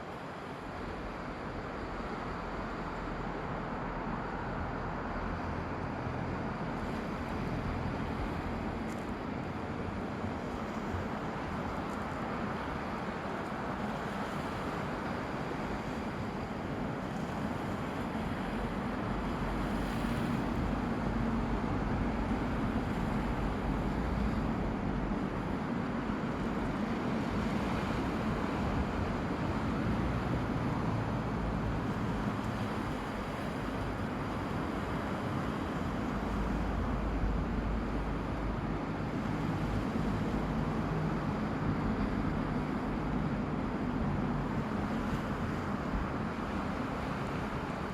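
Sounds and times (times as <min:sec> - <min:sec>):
waves breaking on shore: 0:00.0 - 0:47.9
wind rumble on microphone: 0:00.5 - 0:47.9.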